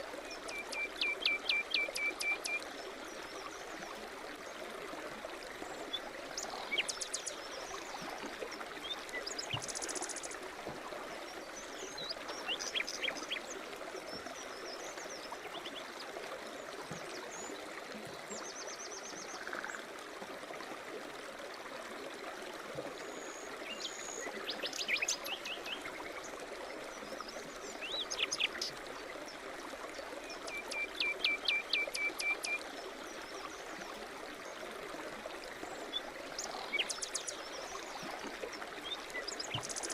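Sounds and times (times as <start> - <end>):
brook running: 0.0 - 39.9.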